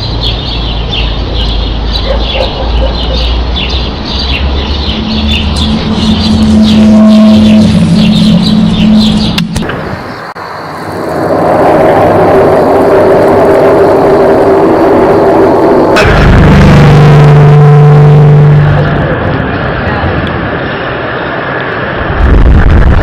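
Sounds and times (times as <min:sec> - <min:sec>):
deep steady hum: 0:00.0 - 0:23.0
loud drone with low tones: 0:00.0 - 0:23.0
rumbling noise: 0:00.0 - 0:23.0.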